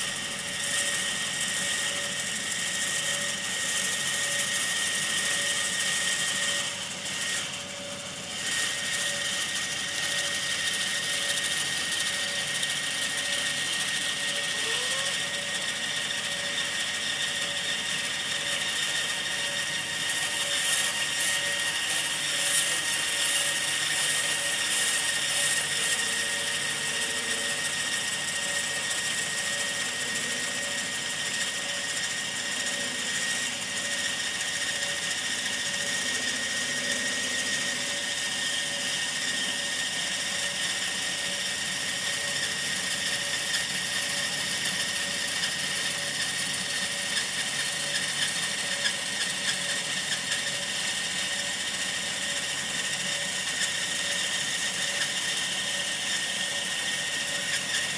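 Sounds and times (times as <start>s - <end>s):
bandsaw cutting wood: 0.0s - 57.9s.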